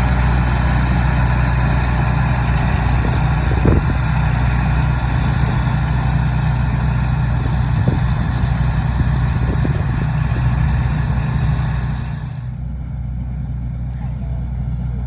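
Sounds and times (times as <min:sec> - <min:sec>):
harvesting machine engine drone: 0:00.0 - 0:15.0.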